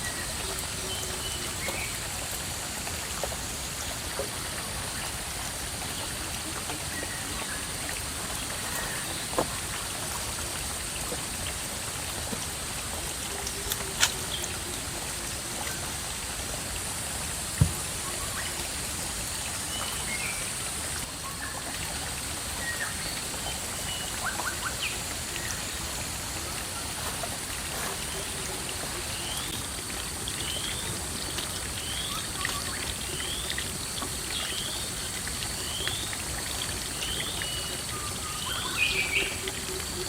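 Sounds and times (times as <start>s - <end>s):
rushing water: 0.0s - 40.0s.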